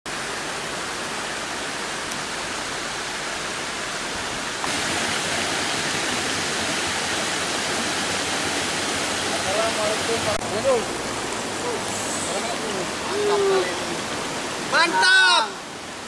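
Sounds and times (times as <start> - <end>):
stream rushing over rocks: 0.1 - 16.0.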